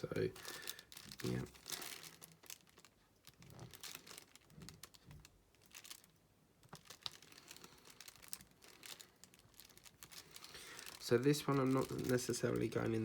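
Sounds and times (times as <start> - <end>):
plastic crinkling: 0.0 - 13.0.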